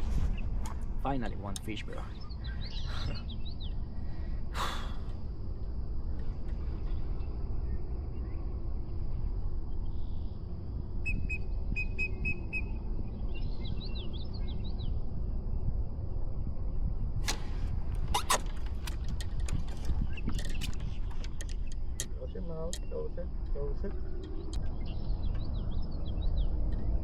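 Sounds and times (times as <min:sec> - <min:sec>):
birds chirping: 0:00.0 - 0:16.8, 0:18.0 - 0:27.0
steady low rumble: 0:00.0 - 0:27.0.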